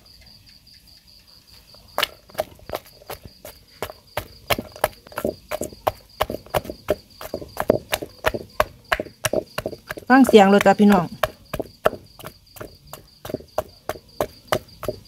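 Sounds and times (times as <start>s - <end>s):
pestle pounding in a mortar: 2.0s - 15.0s.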